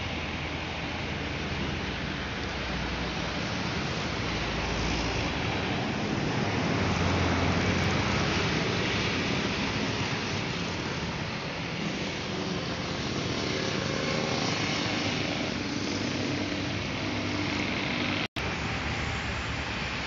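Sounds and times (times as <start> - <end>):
bus driving past: 0.0 - 20.0.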